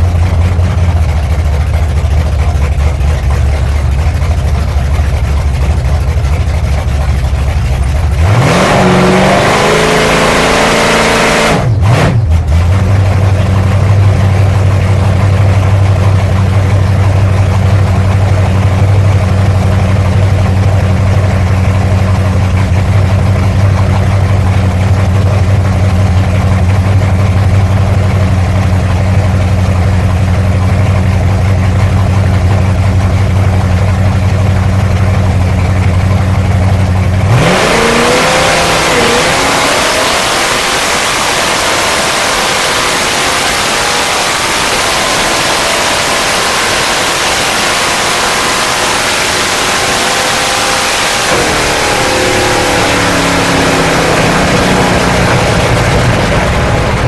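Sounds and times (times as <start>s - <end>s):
drag car engine running and revving: 0.0s - 57.0s.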